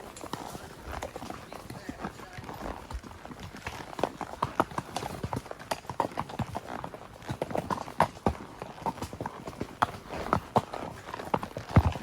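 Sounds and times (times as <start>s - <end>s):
horse hoofbeats: 0.0s - 12.0s.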